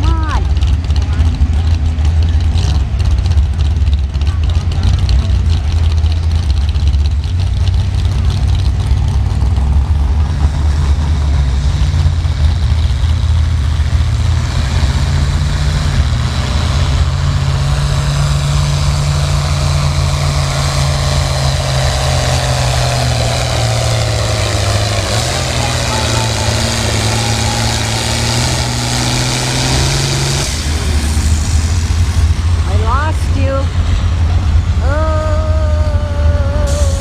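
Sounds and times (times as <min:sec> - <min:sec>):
tractor engine running hard: 0:00.0 - 0:37.0.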